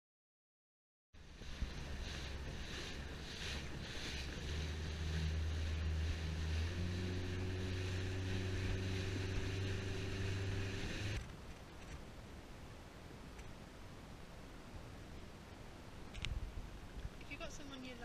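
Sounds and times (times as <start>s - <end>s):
motorboat engine humming: 1.2s - 17.8s
water and wind rushing past hull: 1.2s - 18.0s.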